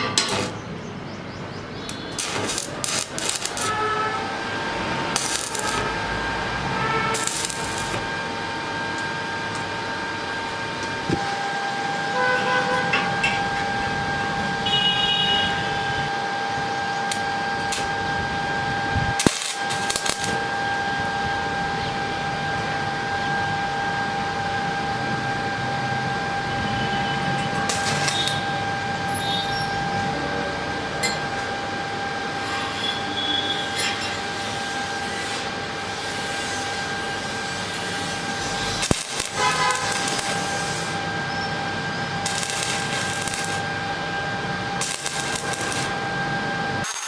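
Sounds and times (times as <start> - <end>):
arc welder whine and hiss: 0.0 - 0.8, 1.7 - 47.0.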